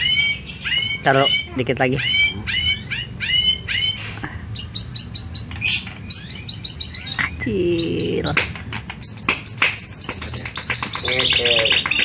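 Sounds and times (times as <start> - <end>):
bird whistling song: 0.0 - 8.4, 9.0 - 12.0
bird chattering notes: 0.0 - 12.0.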